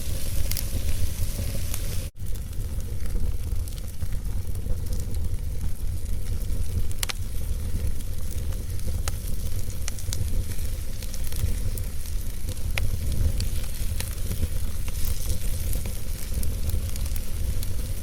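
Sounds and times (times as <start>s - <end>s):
fire rumbling and hissing: 0.0s - 18.0s
logs crackling and popping: 0.0s - 18.0s.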